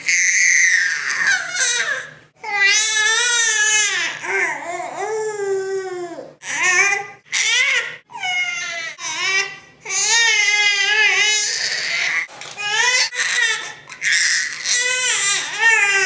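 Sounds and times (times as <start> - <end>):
baby crying: 0.1 - 16.0.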